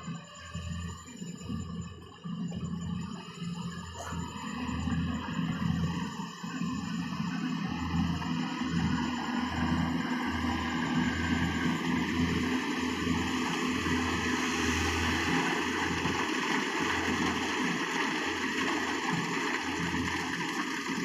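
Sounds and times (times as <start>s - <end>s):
combine harvester engine: 0.0s - 21.0s
threshing machinery running: 0.0s - 21.0s.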